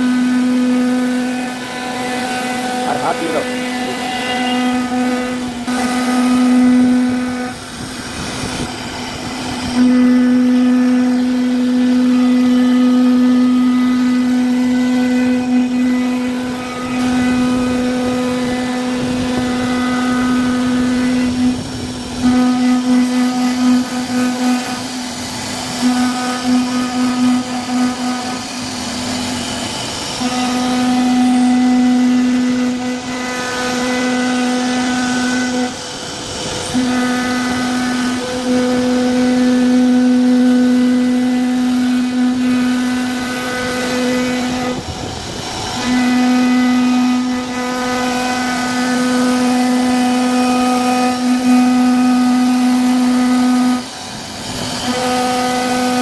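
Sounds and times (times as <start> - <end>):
router bit cutting board: 0.0 - 56.0
router spindle high-pitched whine: 0.0 - 56.0.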